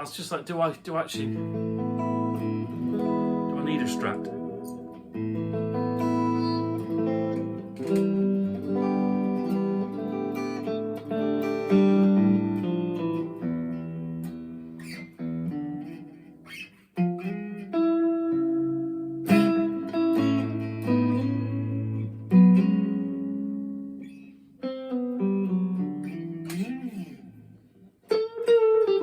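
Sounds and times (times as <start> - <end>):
clean electric guitar with reverb: 1.2 - 29.0.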